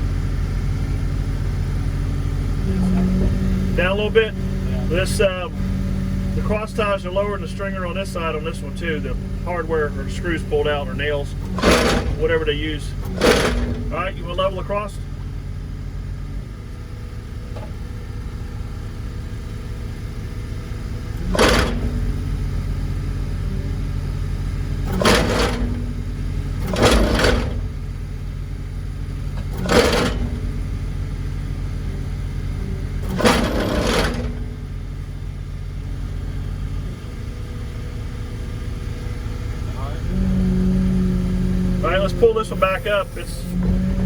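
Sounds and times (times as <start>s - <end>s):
diesel engine running: 0.0s - 44.0s
loud bursts of machine noise: 0.0s - 44.0s.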